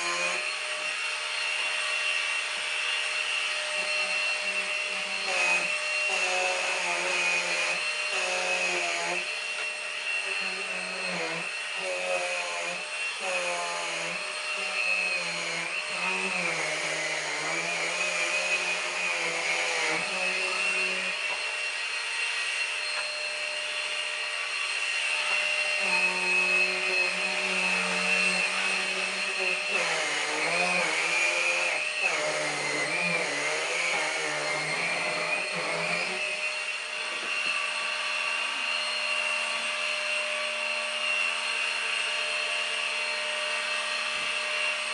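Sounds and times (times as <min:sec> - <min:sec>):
vacuum cleaner whine: 0:00.0 - 0:44.9.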